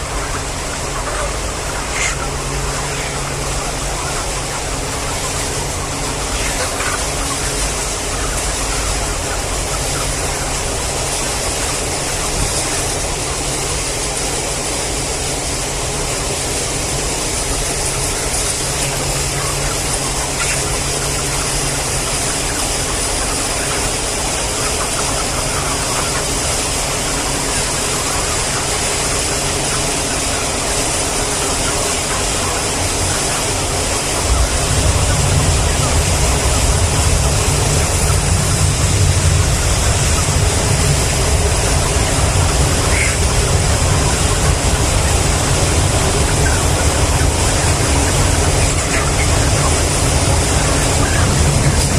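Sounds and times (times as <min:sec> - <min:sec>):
machine running with hiss: 0:00.0 - 0:51.9.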